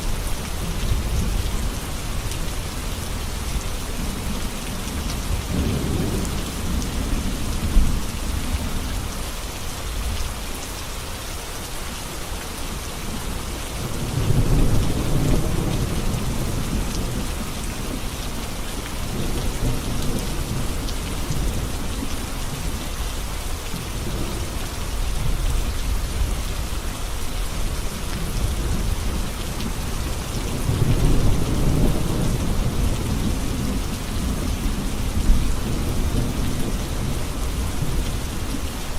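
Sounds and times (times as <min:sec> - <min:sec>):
heavy rain on road: 0:00.0 - 0:38.9.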